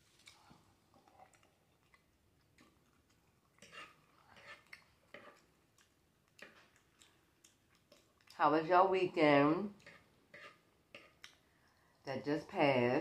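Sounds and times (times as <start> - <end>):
person chewing noodles: 0.2 - 8.4, 9.8 - 12.0.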